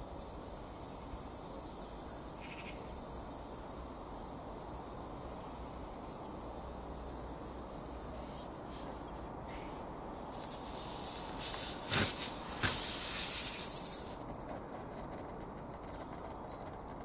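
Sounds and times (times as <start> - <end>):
air hissing from tyre: 0.0 - 14.4.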